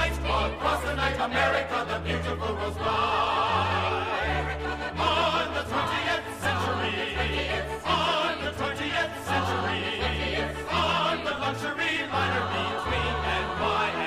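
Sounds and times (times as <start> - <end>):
chorus singing: 0.0 - 14.0.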